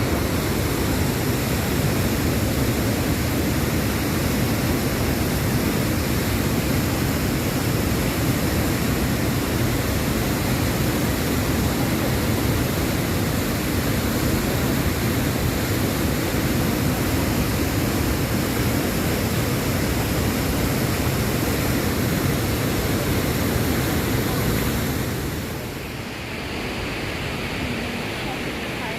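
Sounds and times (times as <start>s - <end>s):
waterfall roaring: 0.0s - 28.9s.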